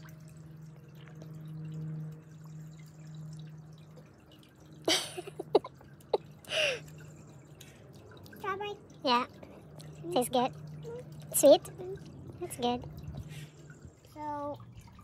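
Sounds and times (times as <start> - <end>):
fountain trickling and dripping: 0.0 - 15.0
steady low hum: 0.0 - 15.0.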